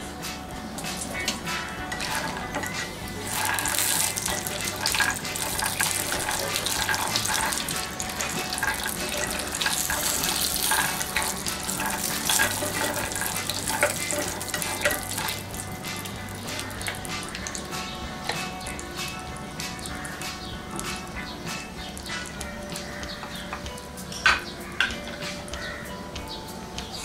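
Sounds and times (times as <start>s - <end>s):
nuts sizzling in oil: 0.9s - 23.5s.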